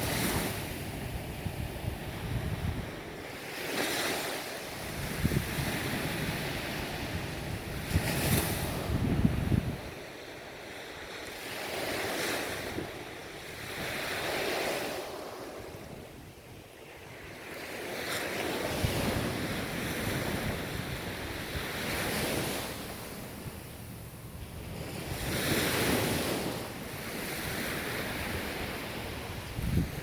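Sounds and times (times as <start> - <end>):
ocean surf washing onto shore: 0.0 - 30.0.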